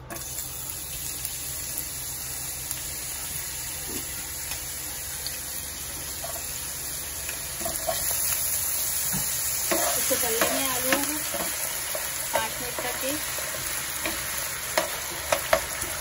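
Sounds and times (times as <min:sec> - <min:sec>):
potatoes sizzling in hot oil: 0:00.0 - 0:16.0.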